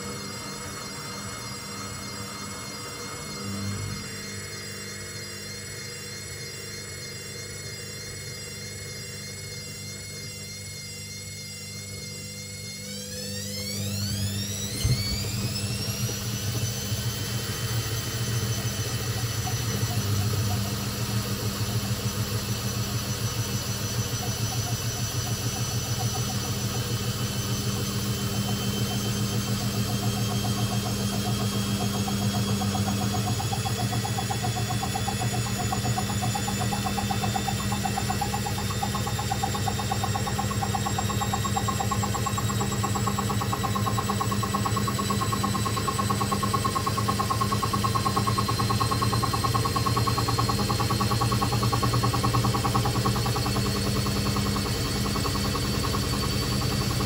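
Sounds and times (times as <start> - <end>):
washing machine motor whine: 0.0 - 57.0.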